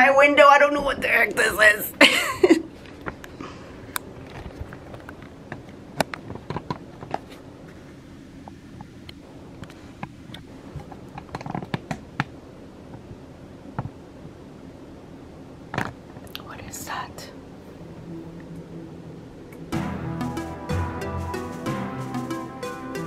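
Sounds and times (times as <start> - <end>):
low room tone hum: 0.0 - 22.0.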